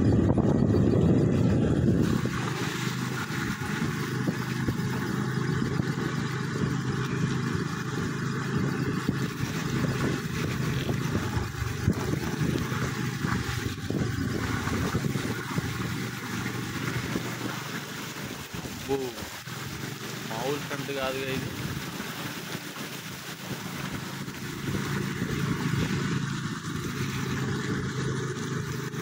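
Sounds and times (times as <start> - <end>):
motorcycle engine hum: 0.0 - 29.0
tyres hissing on wet road: 1.5 - 29.0
rain: 2.0 - 29.0.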